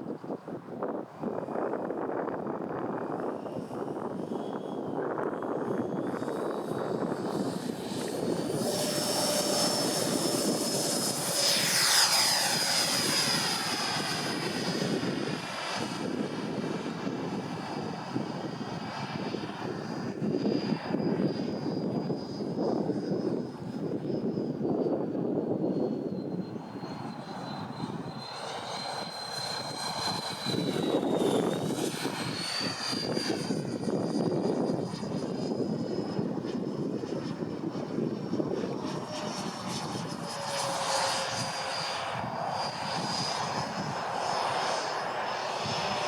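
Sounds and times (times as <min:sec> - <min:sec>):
model jet fan whine: 0:00.0 - 0:46.0.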